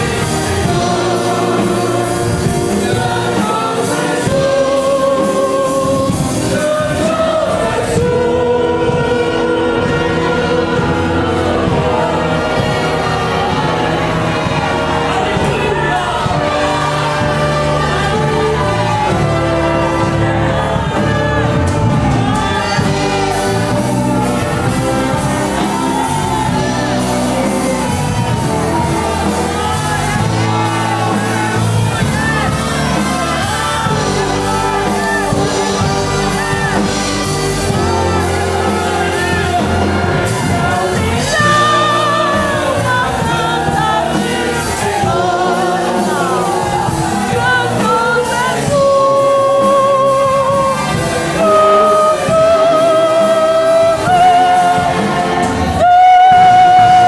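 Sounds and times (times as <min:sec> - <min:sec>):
orchestra playing a hymn: 0:00.0 - 0:57.0
voices singing along: 0:00.0 - 0:57.0.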